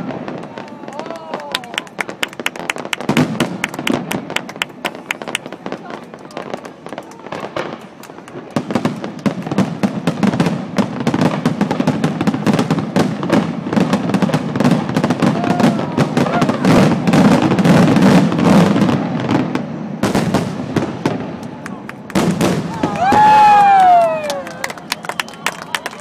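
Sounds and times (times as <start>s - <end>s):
fireworks crackling pops: 0.0s - 26.0s.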